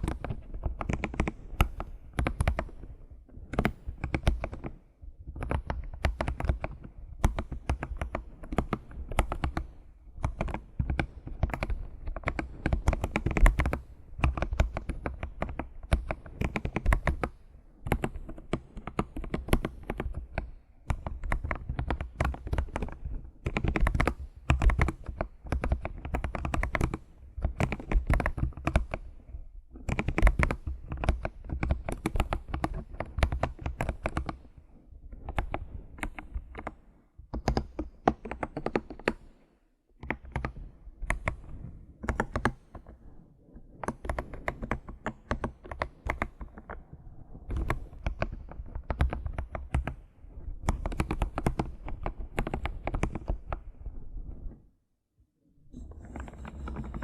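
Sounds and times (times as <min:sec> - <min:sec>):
computer keyboard typing: 0:00.0 - 0:29.1, 0:29.8 - 0:34.5, 0:35.1 - 0:36.8, 0:37.4 - 0:39.2, 0:40.0 - 0:42.9, 0:43.7 - 0:50.0, 0:50.6 - 0:53.6, 0:55.8 - 0:57.0.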